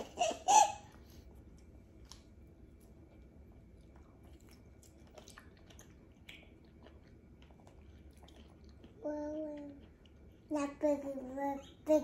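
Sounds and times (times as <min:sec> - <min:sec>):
faint chewing of juicy fruit: 0:00.8 - 0:12.0.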